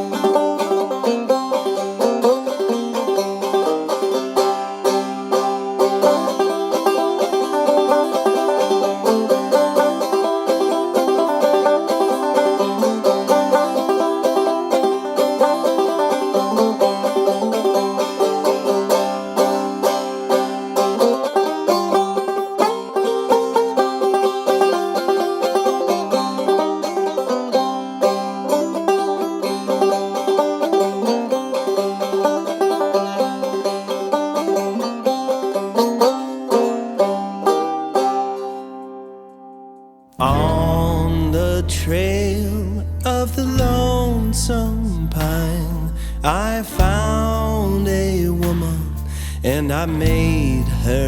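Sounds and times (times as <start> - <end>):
fast picked banjo tune: 0.0 - 39.3, 40.2 - 51.0.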